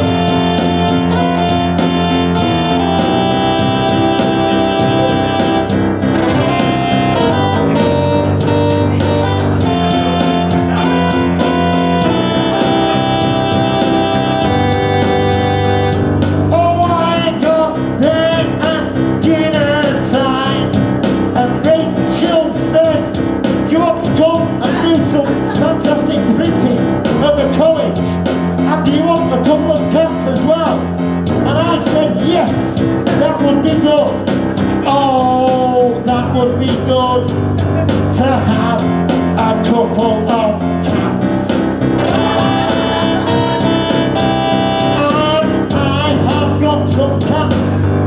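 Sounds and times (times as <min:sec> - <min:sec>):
electronic keyboard backing: 0:00.0 - 0:48.0
wavering keyboard lead melody: 0:00.0 - 0:48.0.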